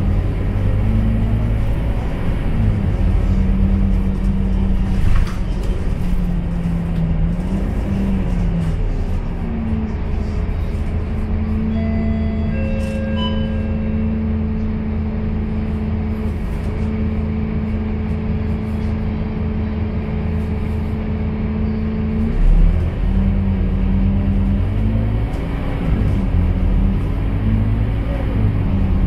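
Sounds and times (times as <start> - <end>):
bus engine running: 0.0 - 29.0.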